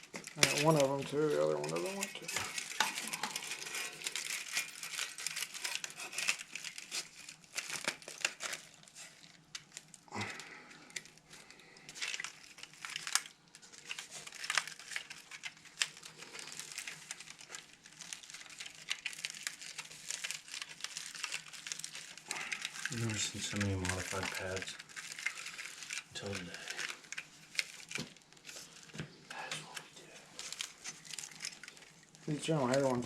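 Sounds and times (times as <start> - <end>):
humidifier pad crinkling: 0.0 - 33.0.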